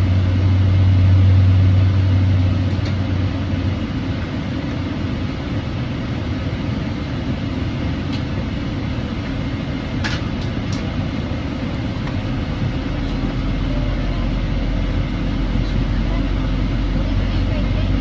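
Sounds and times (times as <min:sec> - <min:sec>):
aircraft cabin rumble: 0:00.0 - 0:18.0.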